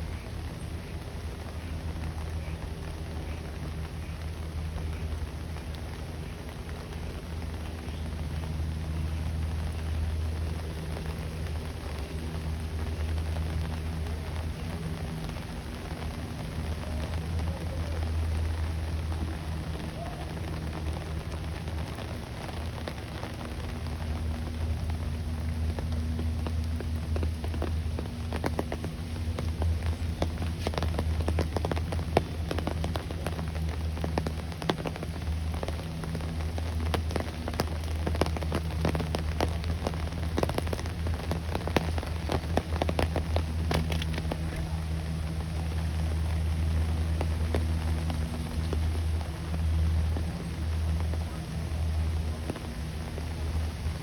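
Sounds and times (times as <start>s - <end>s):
low steady hum: 0.0s - 54.0s
rain pattering: 0.0s - 54.0s.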